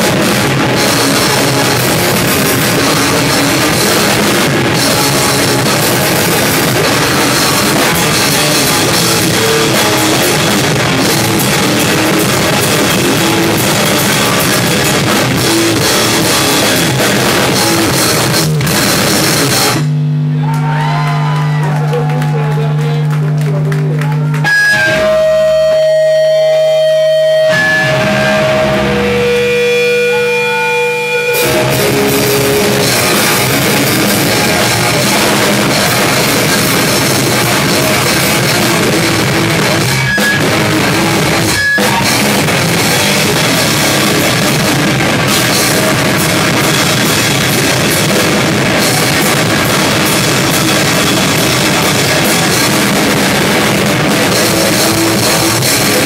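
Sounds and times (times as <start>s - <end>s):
live rock band playing: 0.0s - 20.2s, 24.3s - 56.0s
held guitar notes ringing: 0.0s - 20.4s, 24.4s - 56.0s.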